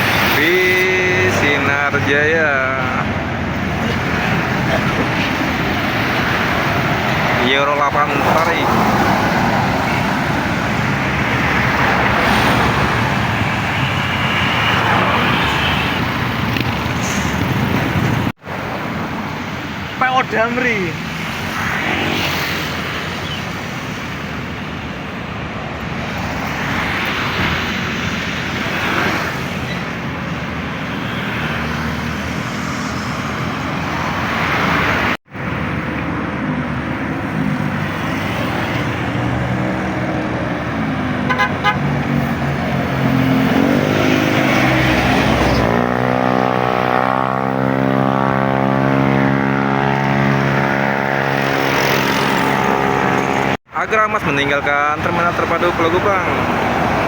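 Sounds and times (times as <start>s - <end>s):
diesel buses running: 0.0s - 57.0s.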